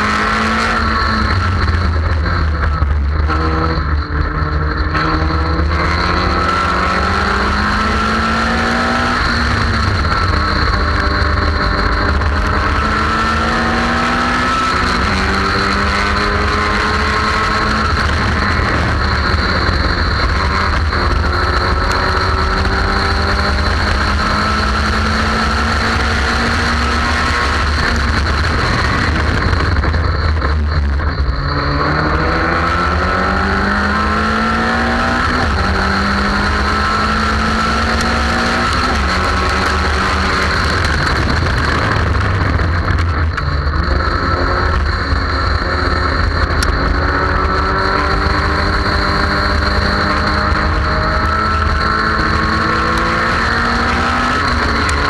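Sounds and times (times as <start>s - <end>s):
race car engine revving: 0.0s - 55.0s
wind rumble on microphone: 0.0s - 55.0s.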